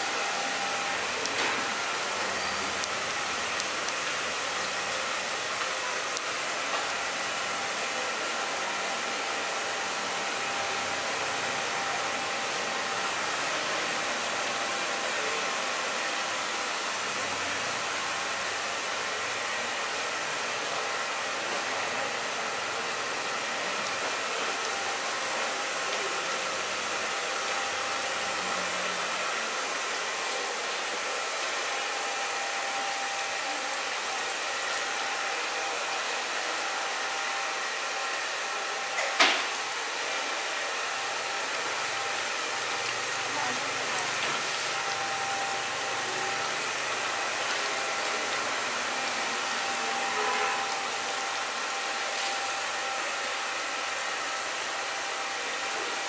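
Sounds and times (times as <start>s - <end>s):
blower motor hiss: 0.0s - 56.0s.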